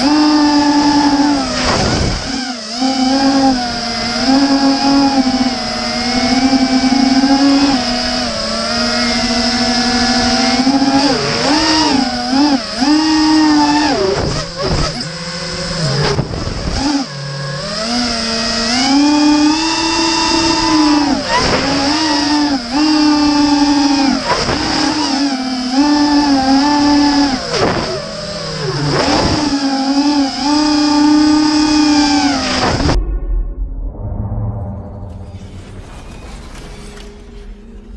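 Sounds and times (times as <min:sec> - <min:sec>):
quadcopter motors whining: 0:00.0 - 0:33.0, 0:35.1 - 0:37.9.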